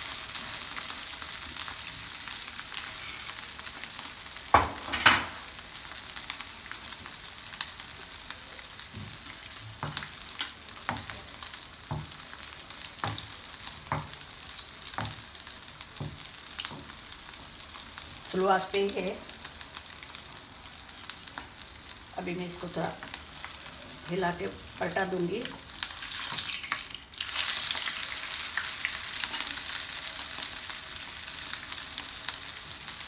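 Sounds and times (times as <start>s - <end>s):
meat patty sizzling in oil: 0.0s - 33.0s.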